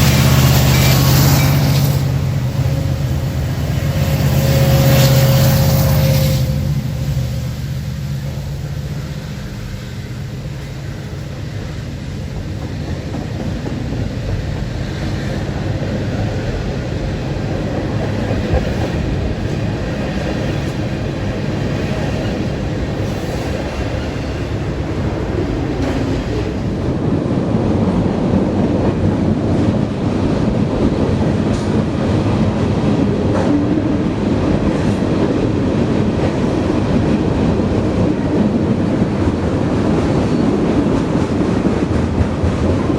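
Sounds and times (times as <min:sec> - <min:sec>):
freight train wheels rumbling on rail: 0:00.0 - 0:42.9.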